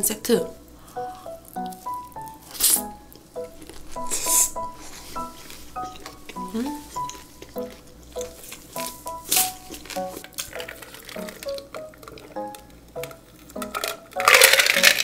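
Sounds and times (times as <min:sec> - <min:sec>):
plucked background music: 0:00.0 - 0:15.0
wet chewing: 0:00.8 - 0:13.6.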